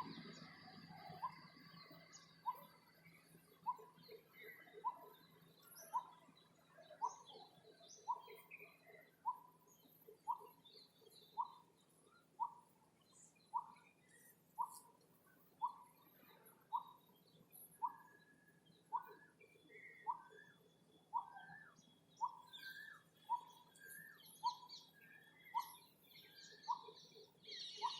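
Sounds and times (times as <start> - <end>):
faint bird chirps: 0.0 - 27.9.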